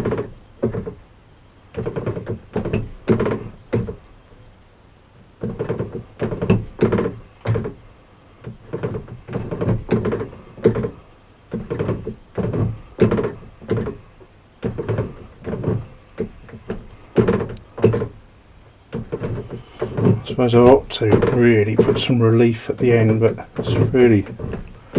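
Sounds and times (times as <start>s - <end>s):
metal tool scraping thunks: 1.7s - 4.0s, 5.4s - 7.8s, 8.4s - 18.2s, 18.9s - 24.9s.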